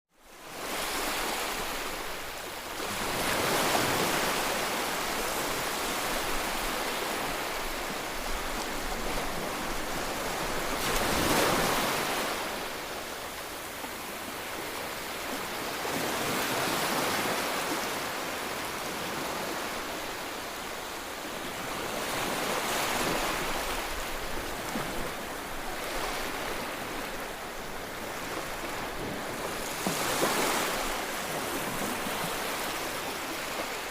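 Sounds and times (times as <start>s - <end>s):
ocean waves breaking on shore: 0.2s - 33.9s.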